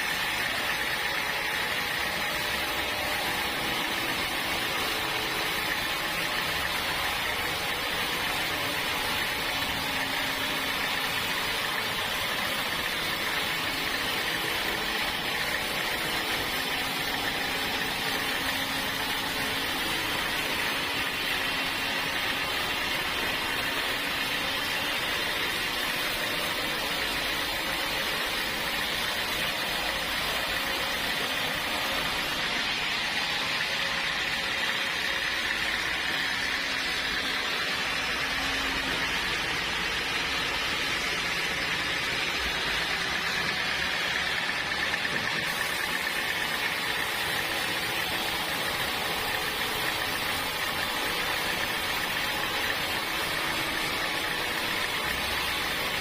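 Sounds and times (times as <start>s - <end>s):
sawmill machinery hiss: 0.0s - 56.0s.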